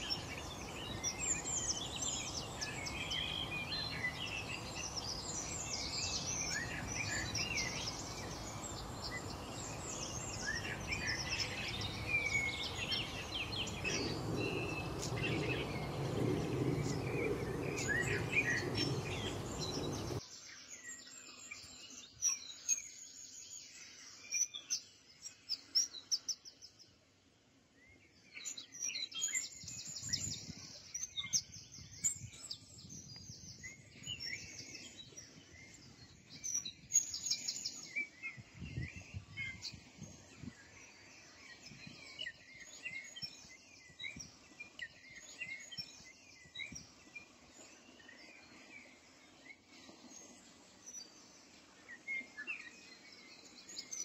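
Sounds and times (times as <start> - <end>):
birds chirping and singing: 0.0 - 26.5, 27.9 - 54.0
background noise: 0.0 - 54.0.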